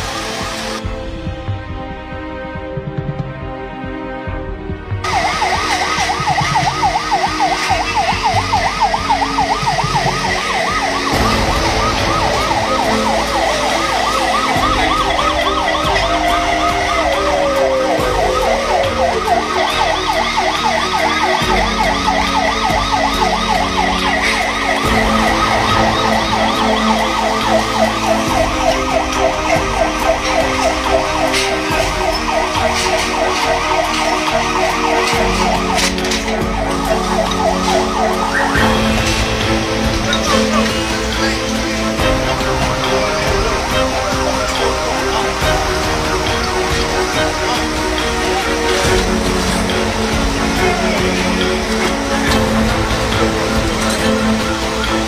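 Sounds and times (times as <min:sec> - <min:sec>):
siren yelping: 0:05.0 - 0:54.2
siren wailing: 0:05.0 - 0:55.0.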